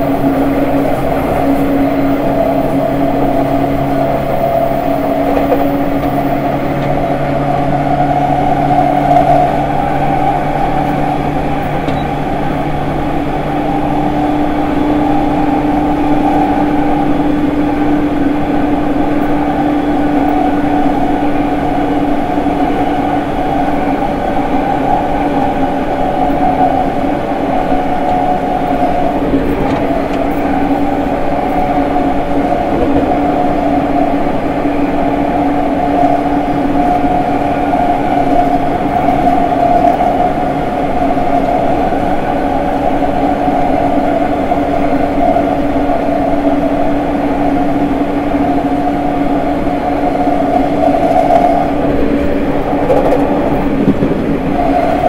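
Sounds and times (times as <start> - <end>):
train rolling rumble: 0.0 - 55.0.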